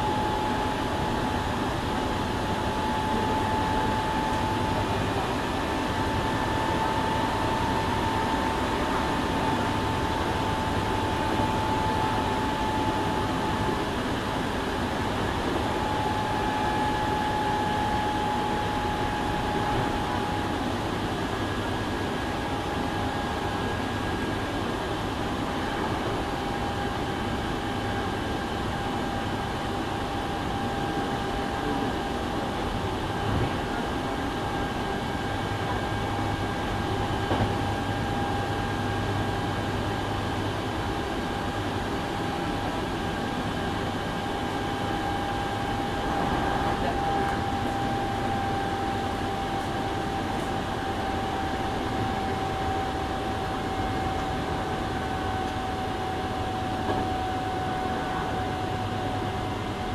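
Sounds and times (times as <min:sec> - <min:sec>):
electric train running whine: 0:00.0 - 0:59.9.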